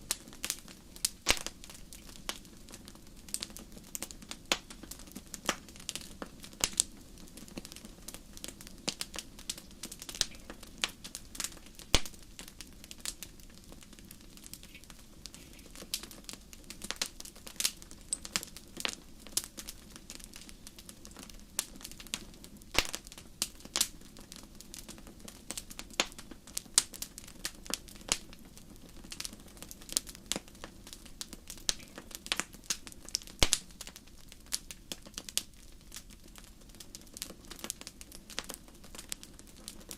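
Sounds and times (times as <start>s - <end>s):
low rumble of flame: 0.0s - 39.9s
wood fire crackling: 0.0s - 39.9s.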